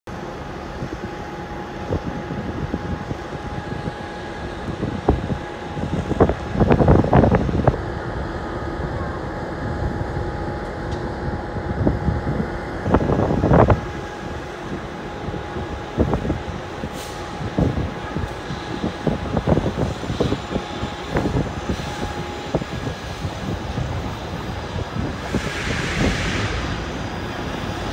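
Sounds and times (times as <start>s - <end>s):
locomotive rumble: 0.1s - 27.9s.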